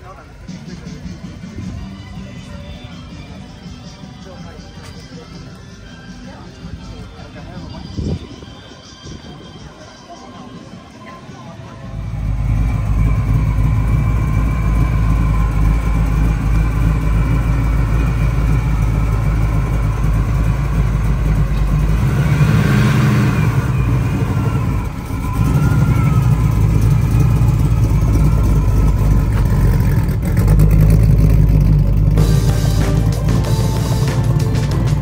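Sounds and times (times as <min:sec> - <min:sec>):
car engine idling and revving: 0:00.0 - 0:08.4, 0:11.0 - 0:35.0.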